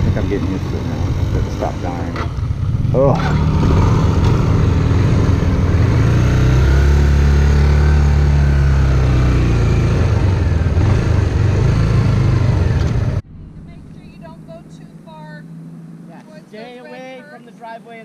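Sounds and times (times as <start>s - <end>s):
motorcycle engine running: 0.0s - 16.5s.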